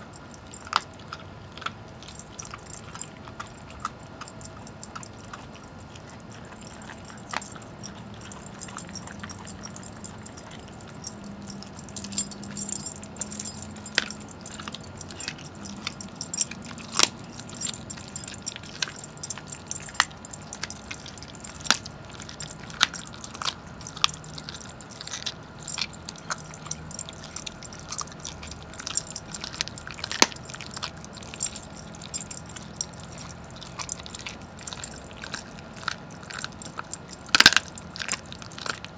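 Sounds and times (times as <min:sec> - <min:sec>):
dog gnawing bone: 0:00.0 - 0:38.9
metal collar tags clinking: 0:00.0 - 0:38.9.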